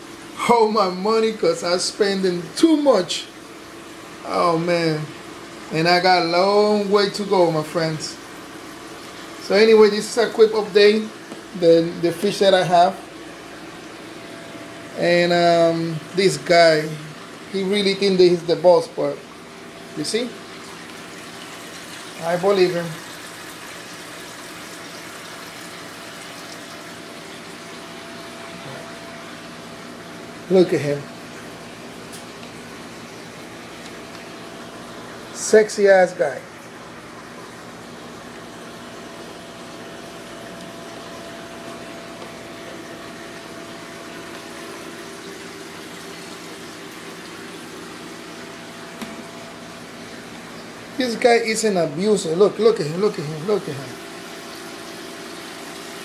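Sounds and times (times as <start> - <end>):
aquarium water circulating: 0.0 - 56.0
faint low pump hum: 0.0 - 56.0.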